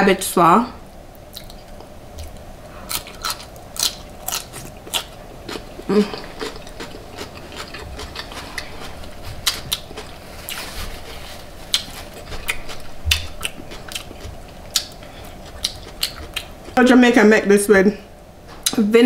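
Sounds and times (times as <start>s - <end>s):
chewing crunchy slaw: 1.2s - 16.8s.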